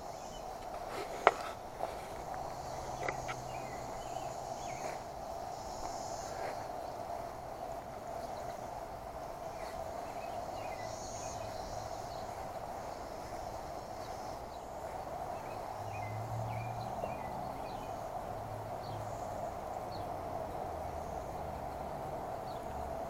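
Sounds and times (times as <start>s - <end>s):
cicada chorus drone: 0.0s - 23.0s.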